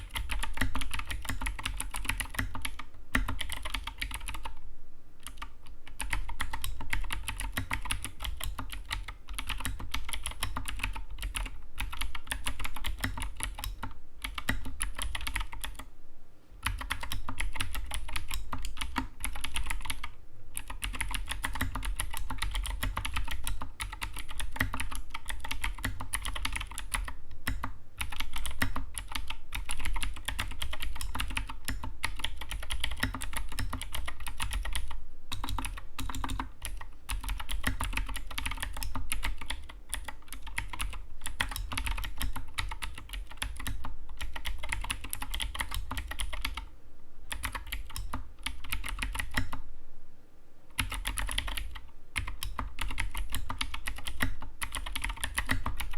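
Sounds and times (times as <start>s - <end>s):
mechanical keyboard typing: 0.0s - 4.6s, 5.2s - 15.9s, 16.6s - 46.7s, 47.3s - 49.6s, 50.8s - 55.9s.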